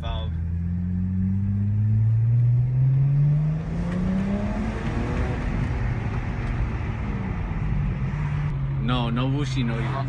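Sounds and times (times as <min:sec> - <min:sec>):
car engine accelerating: 0:00.2 - 0:10.0.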